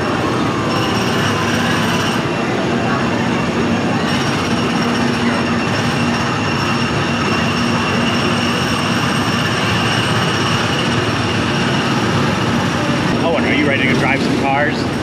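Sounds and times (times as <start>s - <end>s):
faint steady whine: 0.0s - 15.0s
small gasoline engines droning: 0.0s - 15.0s.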